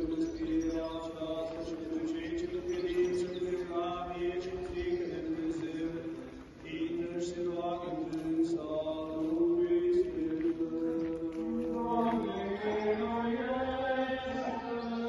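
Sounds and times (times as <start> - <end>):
choir chanting slow notes: 0.0 - 15.0.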